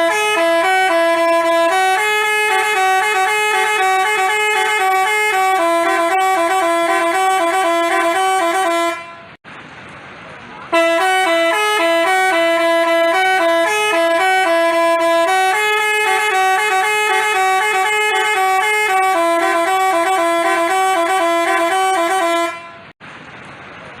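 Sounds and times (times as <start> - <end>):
musical bus horn playing a tune: 0.0 - 9.4, 10.7 - 23.0.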